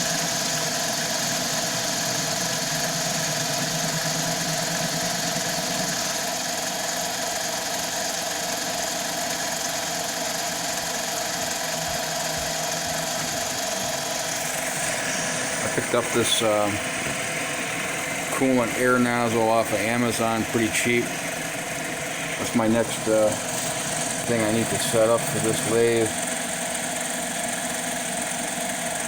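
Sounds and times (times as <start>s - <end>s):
lathe motor whine: 0.0s - 29.0s.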